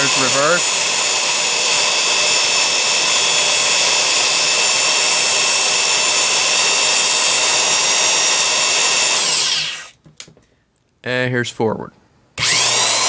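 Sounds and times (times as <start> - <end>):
drill motor whining: 0.0 - 10.0, 12.4 - 13.0.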